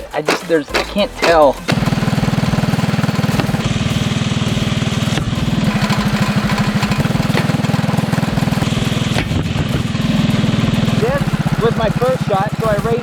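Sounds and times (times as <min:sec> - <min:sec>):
sharp knocks: 0:00.0 - 0:03.7, 0:04.6 - 0:13.0
small engine running: 0:00.8 - 0:13.0.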